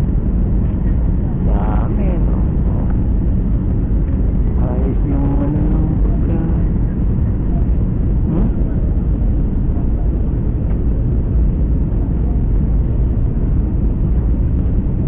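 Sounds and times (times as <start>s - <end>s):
airliner engine and airflow rumble: 0.0s - 15.0s.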